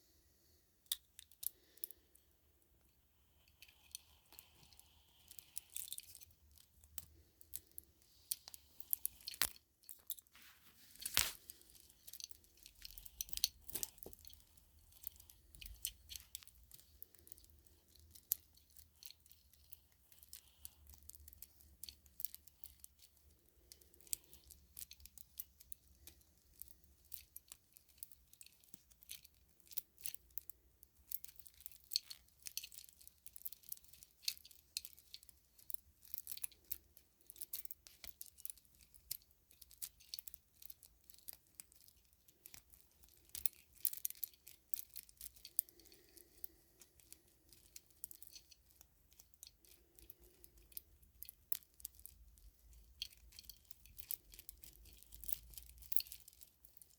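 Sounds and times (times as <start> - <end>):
plastic clicks and rustles of cord: 0.8 - 56.9.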